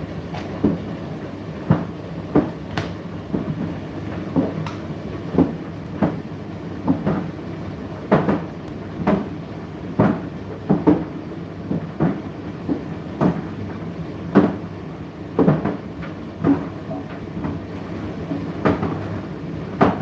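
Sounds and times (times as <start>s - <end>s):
tumble dryer motor hum: 0.0s - 20.0s.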